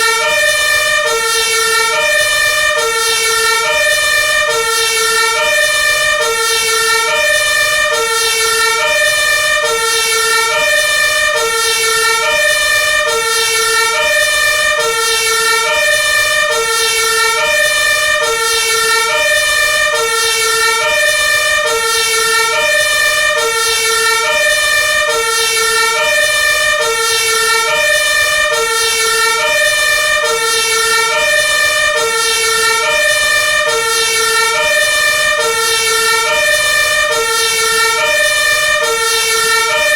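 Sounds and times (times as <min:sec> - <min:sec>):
two-tone fire truck siren: 0:00.0 - 0:39.9.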